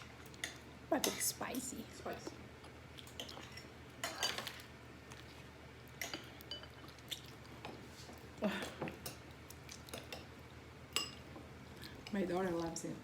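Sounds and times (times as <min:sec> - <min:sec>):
chewing and soft slurping: 0:02.0 - 0:12.9.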